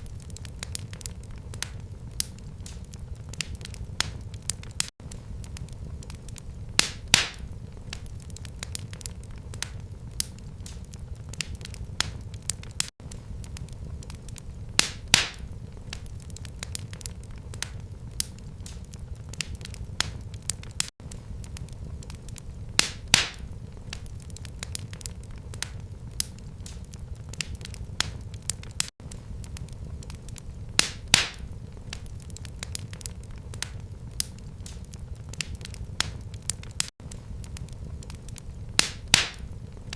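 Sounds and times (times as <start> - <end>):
fire rumbling and crackling: 0.0 - 39.9
wood fire popping: 0.0 - 39.9.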